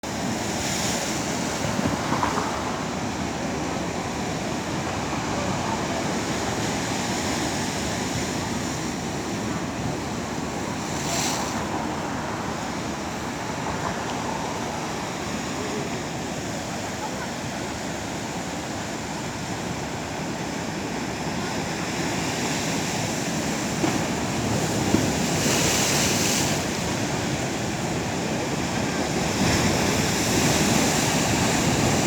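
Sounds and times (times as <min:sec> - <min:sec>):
sea waves washing against shore: 0:00.0 - 0:32.0.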